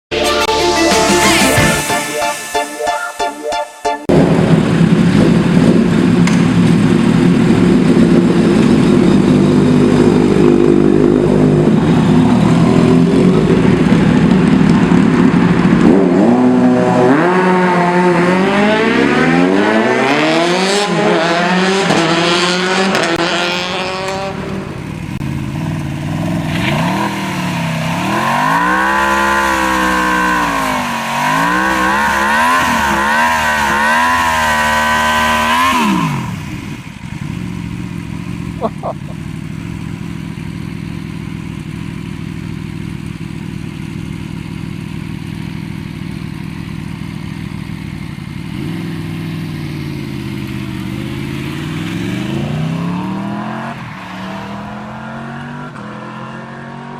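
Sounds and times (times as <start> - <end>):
motorcycle engine revving: 4.1 - 56.9.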